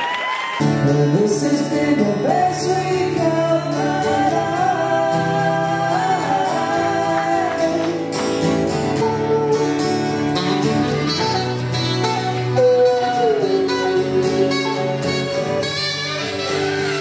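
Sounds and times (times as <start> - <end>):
acoustic guitars strummed: 0.6 - 17.0.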